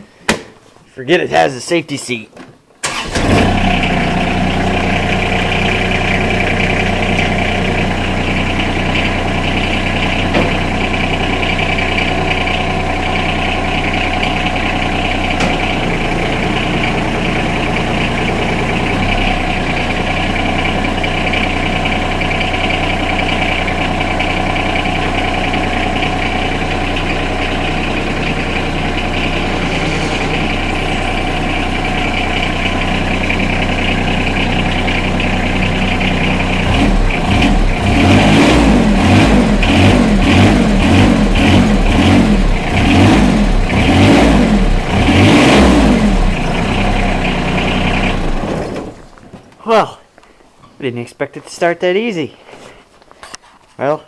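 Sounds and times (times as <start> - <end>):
diesel engine idling: 2.8 - 50.0.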